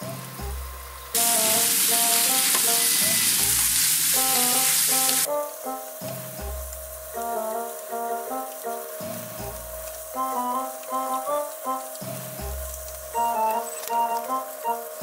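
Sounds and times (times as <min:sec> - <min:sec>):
background music: 0:00.0 - 0:15.0
pork sizzling in a frying pan: 0:00.0 - 0:15.0.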